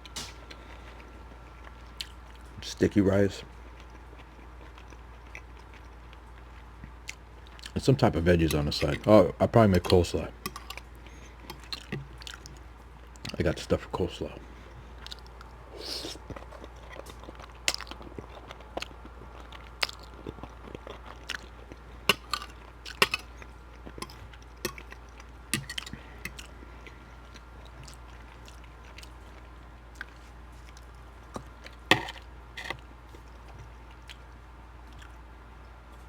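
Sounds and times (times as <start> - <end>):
person chewing food: 0.0 - 2.6, 3.4 - 7.8, 8.4 - 13.5, 14.4 - 35.3.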